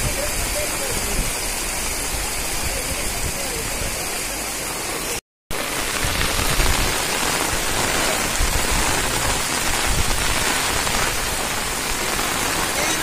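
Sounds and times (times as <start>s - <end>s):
floodwater flowing: 0.0s - 13.0s
heavy rain on a street: 0.0s - 13.0s.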